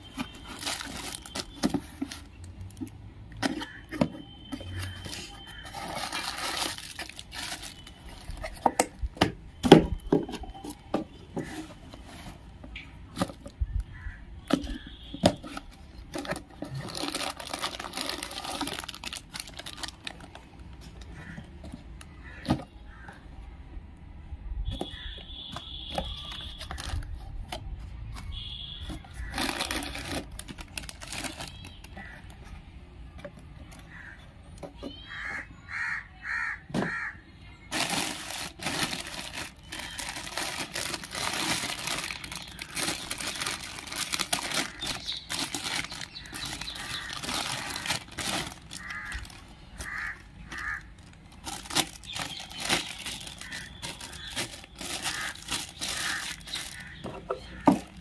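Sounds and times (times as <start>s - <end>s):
plastic wrapping crinkling: 0.0s - 21.5s, 24.7s - 32.5s, 37.7s - 58.0s.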